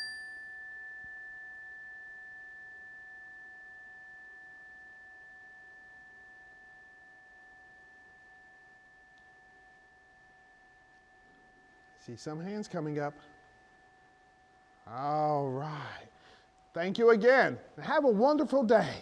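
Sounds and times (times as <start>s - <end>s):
hand chime ringing: 0.0s - 16.0s.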